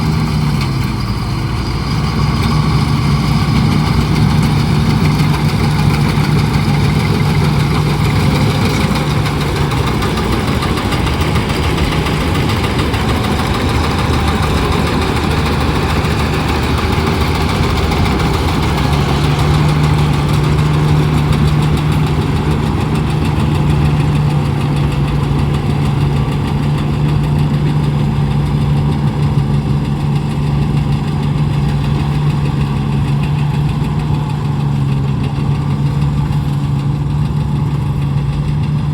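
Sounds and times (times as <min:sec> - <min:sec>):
harvester engine droning: 0:00.0 - 0:38.9.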